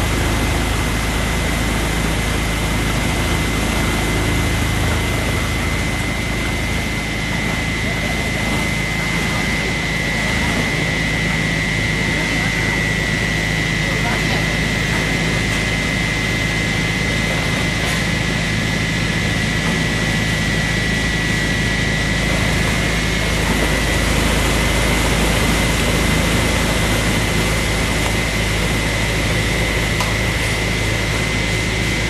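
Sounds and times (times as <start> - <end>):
wood chipper engine drone: 0.0 - 32.0.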